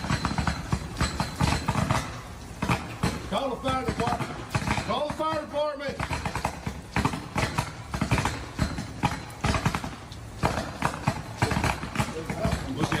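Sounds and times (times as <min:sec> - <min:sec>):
low electrical hum: 0:00.0 - 0:13.0
power line arcing crackles: 0:00.0 - 0:13.0.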